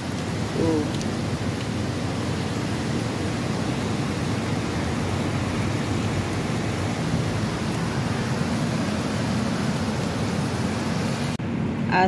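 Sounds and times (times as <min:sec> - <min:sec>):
heavy rain falling: 0:00.0 - 0:11.4.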